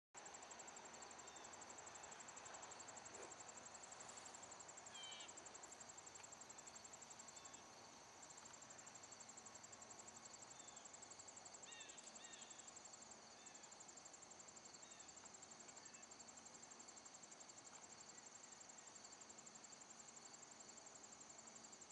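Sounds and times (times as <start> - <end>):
insect chirring: 0.3 - 14.0, 14.6 - 20.3.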